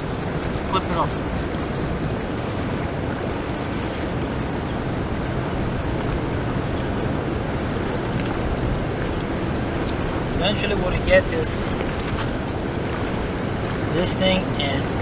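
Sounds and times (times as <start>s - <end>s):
river water rushing over rapids: 0.0s - 15.0s.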